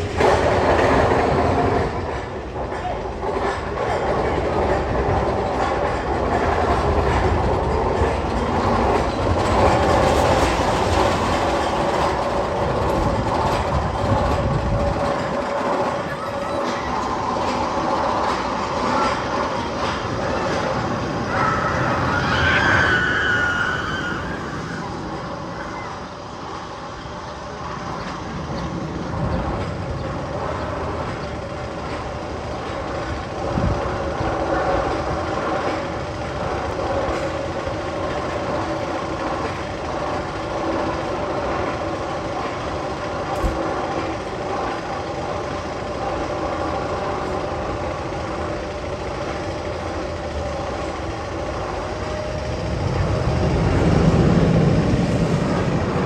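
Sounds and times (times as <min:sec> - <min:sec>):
rumbling drone with held tones: 0:00.0 - 0:56.0.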